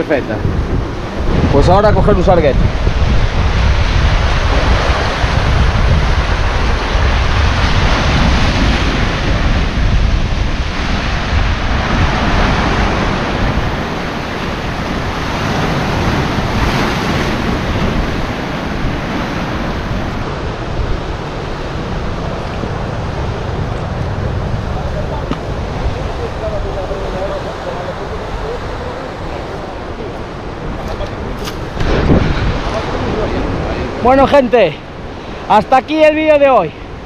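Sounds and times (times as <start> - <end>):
surf breaking on rocks: 0.0 - 36.5
wind rumbling on microphone: 0.0 - 37.0.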